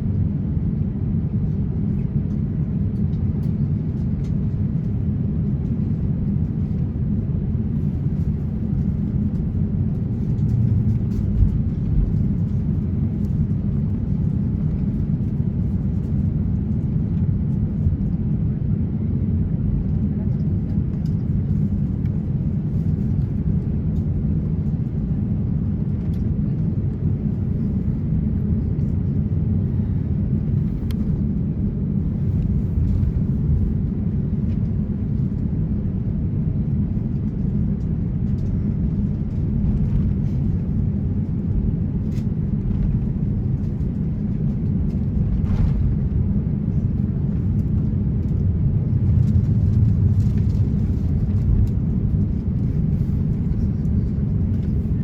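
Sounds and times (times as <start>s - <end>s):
aircraft cabin low rumble: 0.0s - 55.0s.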